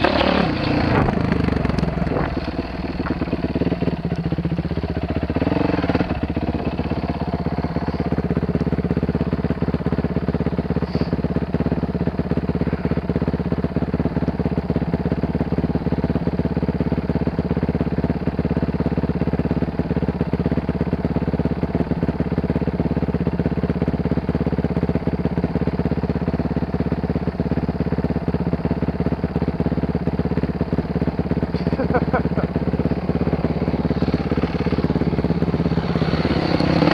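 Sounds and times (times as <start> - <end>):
dirt bike engine running: 0.0 - 36.9.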